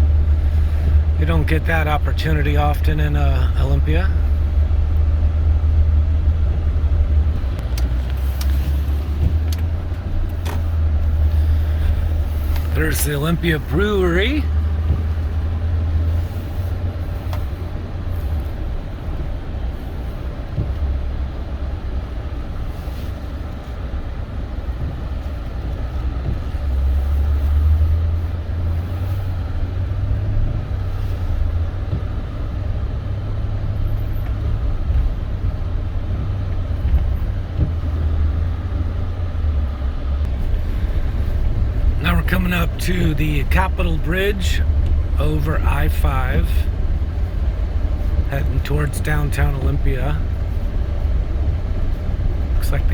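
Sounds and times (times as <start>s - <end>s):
pickup truck engine and road noise: 0.0s - 52.9s.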